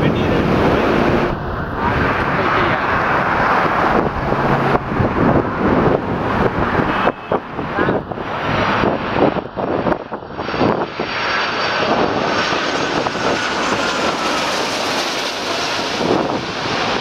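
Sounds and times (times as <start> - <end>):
airliner jet engines flying past: 0.0 - 17.0
wind buffeting microphone: 0.0 - 17.0.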